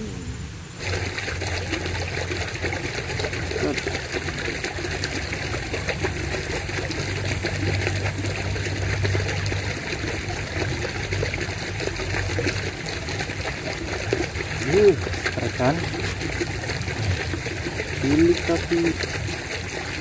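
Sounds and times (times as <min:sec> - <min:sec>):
water trickling in a ditch: 0:00.8 - 0:20.0.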